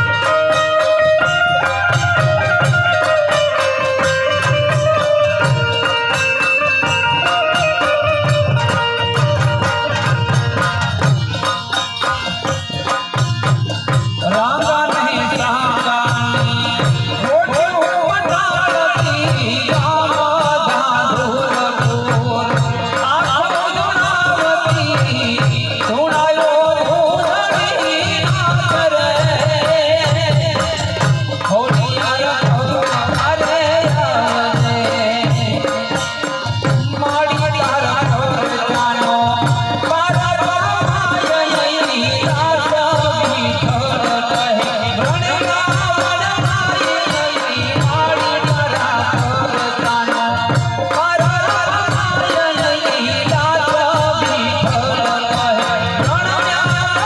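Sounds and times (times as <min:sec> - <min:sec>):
rhythmic drum beat: 0:00.0 - 0:57.0.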